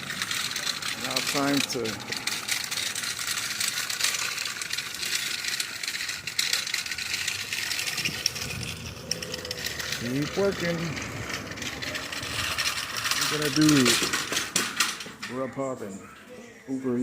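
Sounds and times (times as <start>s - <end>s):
rapid mechanical clicking: 0.0s - 15.1s.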